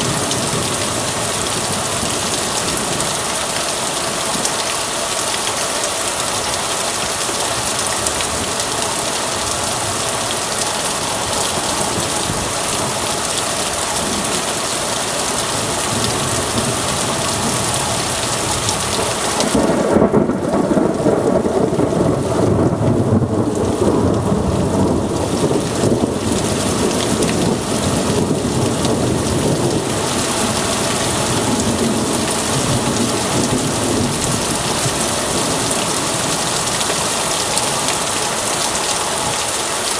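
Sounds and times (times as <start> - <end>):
heavy rain downpour: 0.0 - 39.9
thunder rumbling: 7.5 - 39.5.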